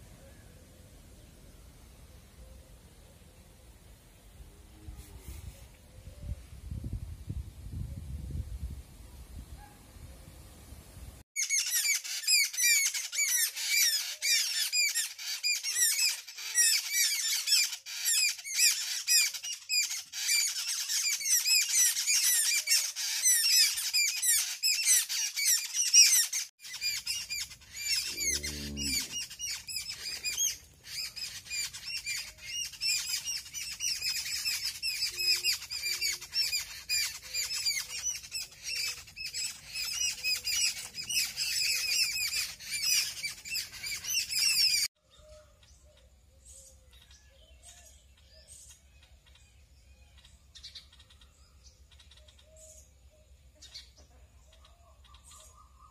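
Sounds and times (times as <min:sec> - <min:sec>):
small birds chirping: 0:10.9 - 0:55.9.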